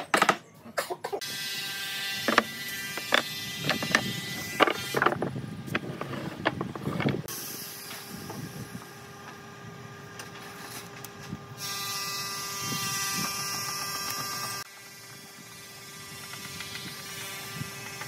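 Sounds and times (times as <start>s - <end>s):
steady mechanical hum: 1.2s - 18.0s.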